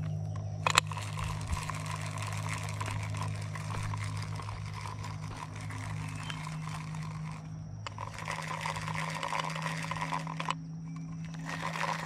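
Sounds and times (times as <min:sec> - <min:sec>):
fishing reel gears ticking: 0:00.0 - 0:12.0
low hum: 0:00.0 - 0:12.0.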